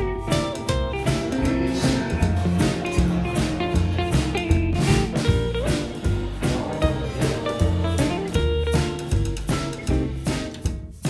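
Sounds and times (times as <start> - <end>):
drums keeping a steady beat: 0.0 - 11.0
guitar-led tune: 0.0 - 11.0.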